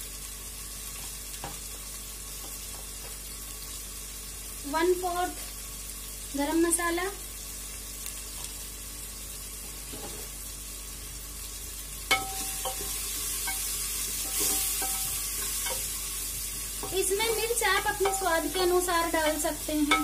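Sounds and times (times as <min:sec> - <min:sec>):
food sizzling in a pot: 0:00.0 - 0:20.0.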